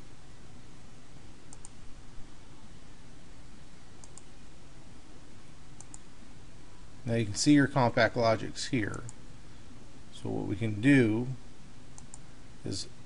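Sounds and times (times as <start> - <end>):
low background hiss: 0.0 - 13.0.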